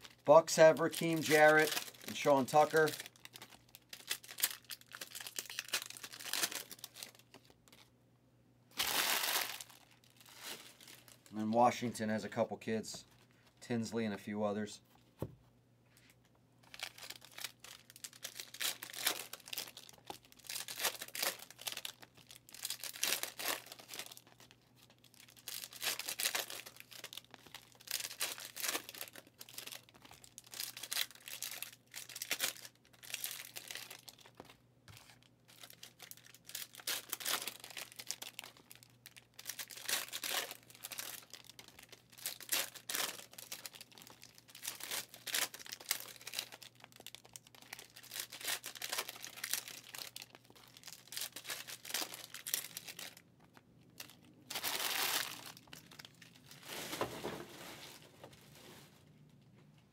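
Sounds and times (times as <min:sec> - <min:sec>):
plastic wrappers ripping and crinkling: 0:00.0 - 0:07.9, 0:08.7 - 0:12.2, 0:16.6 - 0:58.4.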